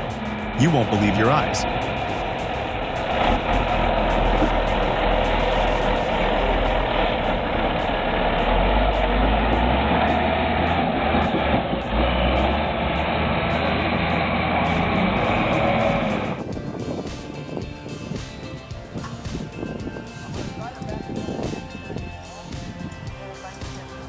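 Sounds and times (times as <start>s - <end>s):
heavy truck engine running: 0.0s - 24.0s.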